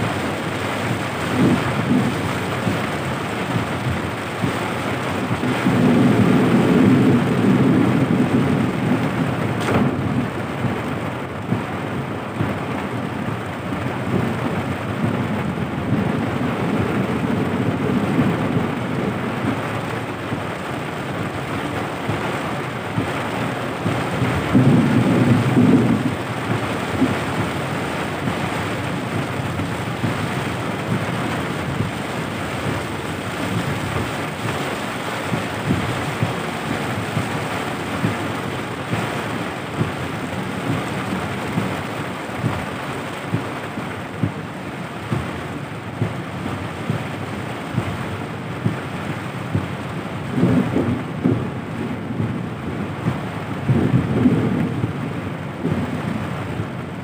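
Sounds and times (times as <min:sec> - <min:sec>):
deep rumble: 0:00.0 - 0:56.7
heavy rain drumming on car roof: 0:00.0 - 0:57.0
tyres hissing on wet road: 0:00.0 - 0:57.0.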